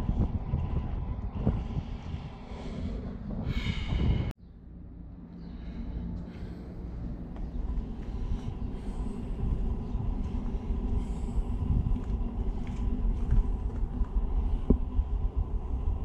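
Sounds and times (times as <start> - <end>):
wind buffeting microphone: 0.0 - 4.4, 5.6 - 16.0.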